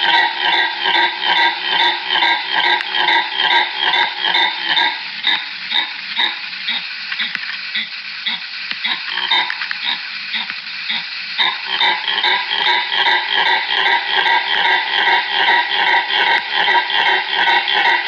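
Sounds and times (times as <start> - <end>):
animal harsh barking calls: 0.0 - 18.0.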